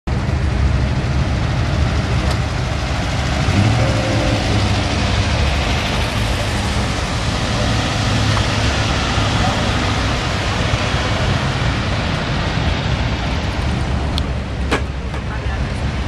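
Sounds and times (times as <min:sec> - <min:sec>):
car engines rumbling: 0:00.1 - 0:16.0.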